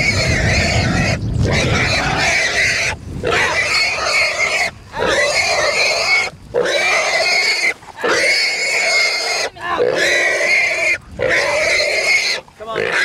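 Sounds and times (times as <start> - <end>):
hog squealing in distress: 0.0 - 13.0.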